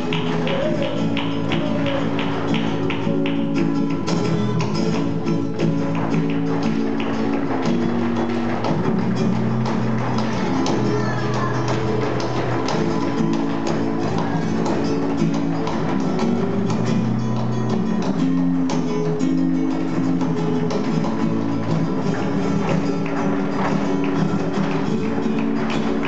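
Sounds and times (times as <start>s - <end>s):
flamenco guitar playing: 0.0s - 26.0s
rhythmic hand-clapping: 0.0s - 26.0s
shoe footwork on stage: 0.0s - 26.0s.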